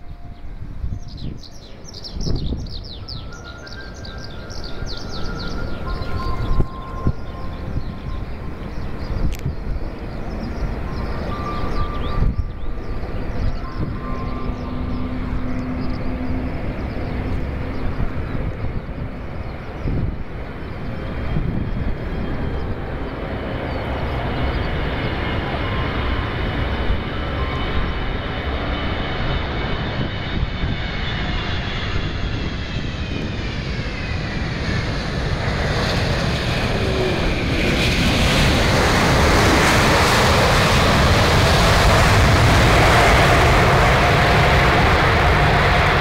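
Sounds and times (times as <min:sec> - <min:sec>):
jet engine whine: 0:00.0 - 0:46.0
reverse thrust engine roar: 0:00.1 - 0:46.0.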